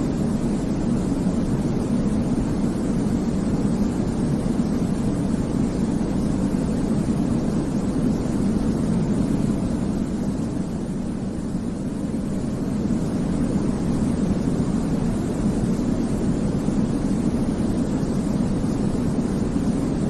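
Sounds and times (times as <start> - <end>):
low rumbly rushing noise: 0.0 - 20.0.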